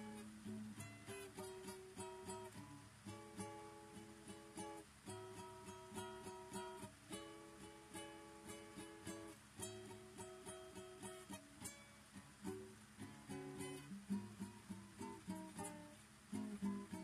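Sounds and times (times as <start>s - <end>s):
solo acoustic guitar: 0.0s - 17.0s.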